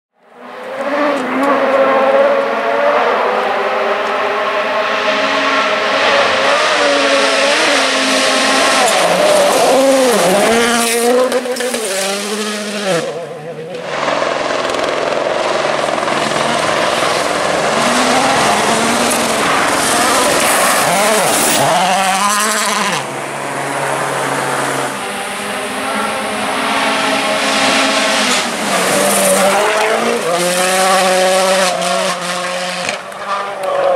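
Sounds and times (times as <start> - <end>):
rally car engine revving: 0.3 - 33.9.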